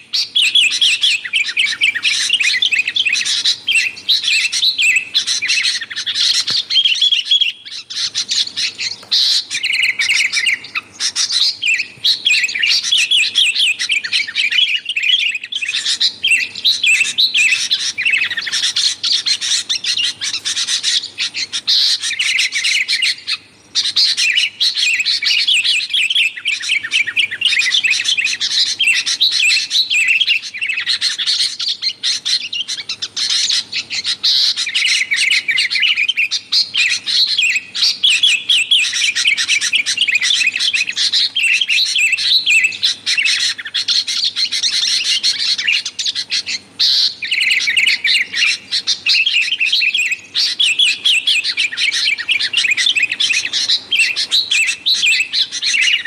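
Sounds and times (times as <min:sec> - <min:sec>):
bulbuls chattering: 0:00.0 - 0:56.0.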